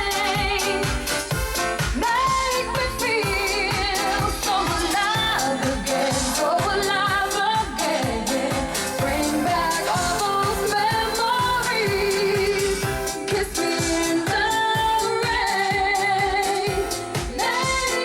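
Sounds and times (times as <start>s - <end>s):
pop song with singing: 0.0s - 18.0s.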